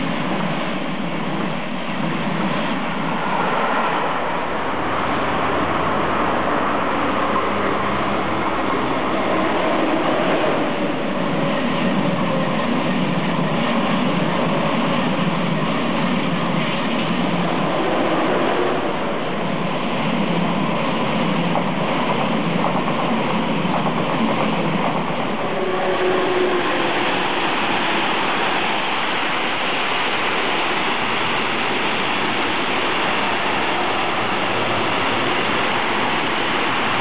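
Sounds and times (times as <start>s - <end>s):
high-speed train passing: 0.0s - 37.0s.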